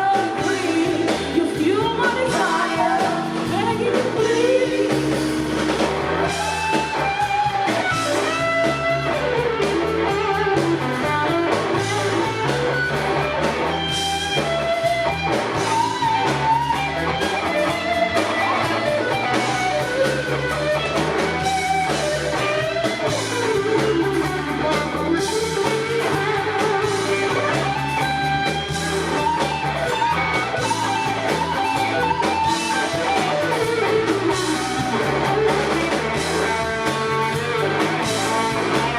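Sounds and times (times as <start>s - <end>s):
blues-rock band playing: 0.0s - 38.9s
electric guitar lead: 0.0s - 38.9s.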